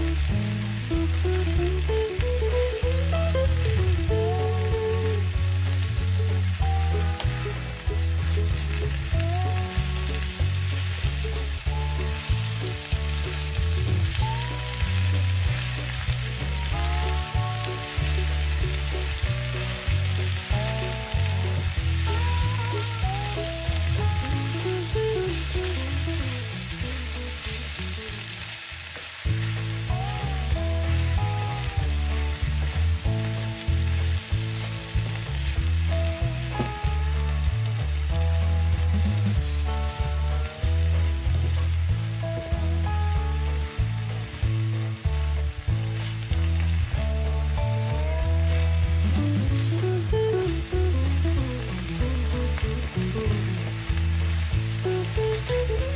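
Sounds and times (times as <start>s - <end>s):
background music with bass: 0.0s - 55.9s
vegetables sizzling in a frying pan: 0.0s - 55.9s.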